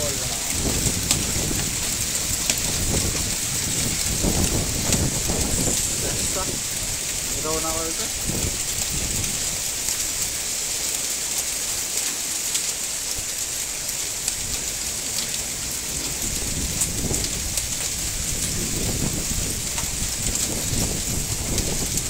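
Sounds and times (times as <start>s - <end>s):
low thunder rumble: 0.0s - 10.5s, 14.3s - 22.0s
heavy rain hissing: 0.0s - 22.0s
rain tapping on cars: 0.0s - 22.0s.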